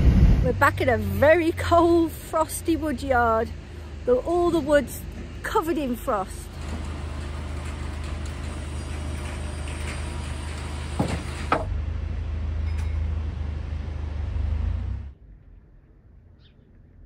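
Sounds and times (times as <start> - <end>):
vehicle engine humming: 0.0 - 15.2.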